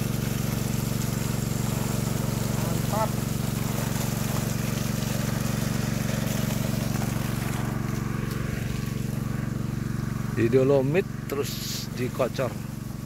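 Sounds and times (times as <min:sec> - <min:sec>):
water pump engine running: 0:00.0 - 0:13.0
water spraying onto soil: 0:00.0 - 0:13.0.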